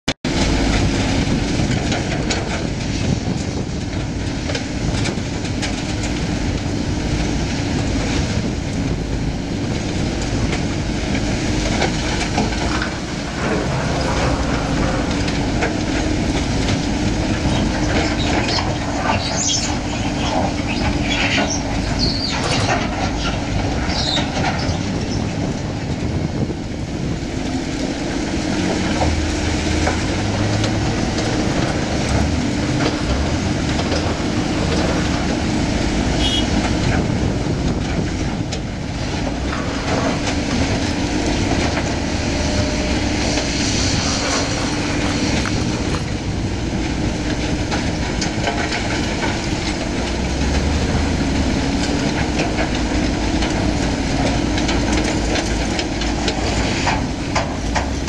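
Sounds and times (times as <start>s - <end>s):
diesel engine drone: 0.2s - 58.0s.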